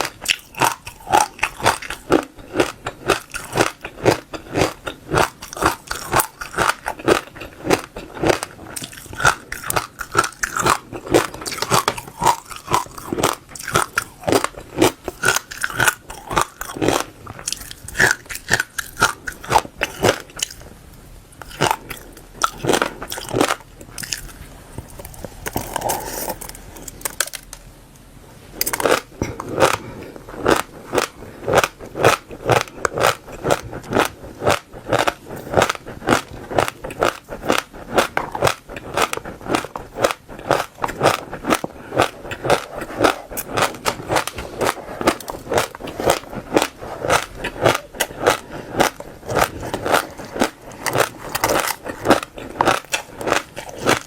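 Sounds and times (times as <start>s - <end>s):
chewing crunchy seeds: 0.0s - 20.7s, 21.4s - 27.6s, 28.6s - 54.0s.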